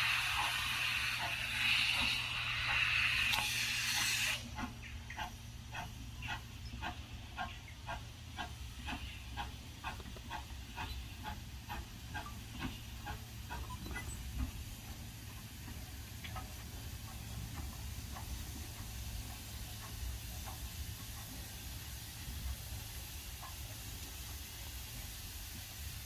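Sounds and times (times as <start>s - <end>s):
steam engine exhaust beats: 0.0s - 26.0s
steam hissing: 0.0s - 26.0s.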